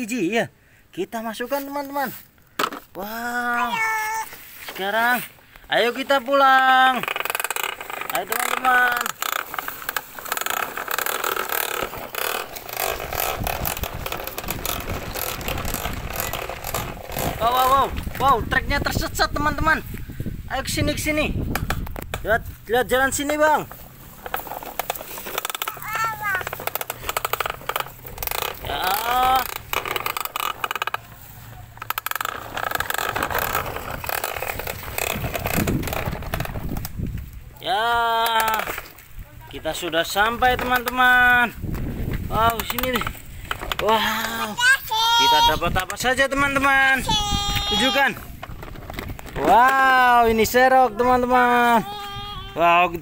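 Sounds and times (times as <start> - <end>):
plastic toy truck rattling: 5.9 - 19.3, 20.6 - 37.1, 37.9 - 53.0.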